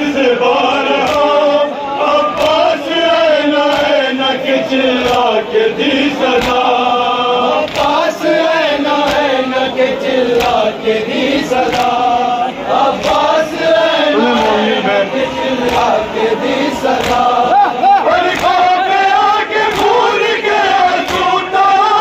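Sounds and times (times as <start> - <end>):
men chanting a lament: 0.0 - 22.0
hands slapping on chests: 1.0 - 1.4, 2.2 - 6.9, 7.5 - 22.0.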